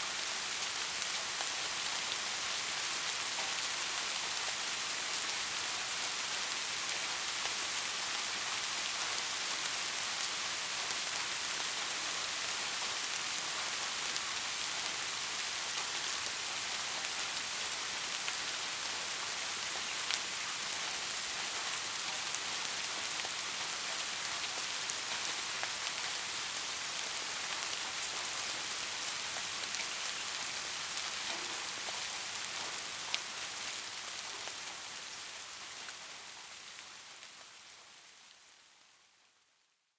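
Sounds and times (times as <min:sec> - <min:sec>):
rain hiss: 0:00.0 - 0:39.7.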